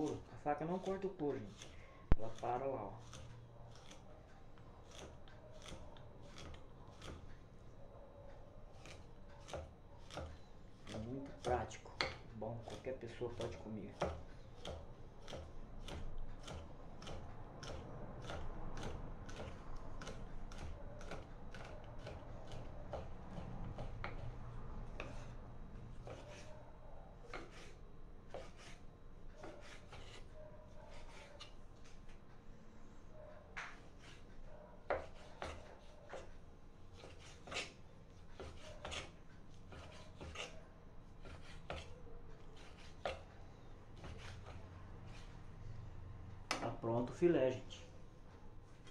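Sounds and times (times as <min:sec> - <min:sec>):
knife scraping fish fillet: 0:00.0 - 0:07.4, 0:08.7 - 0:26.6, 0:27.3 - 0:32.2, 0:33.8 - 0:43.4, 0:44.0 - 0:45.4.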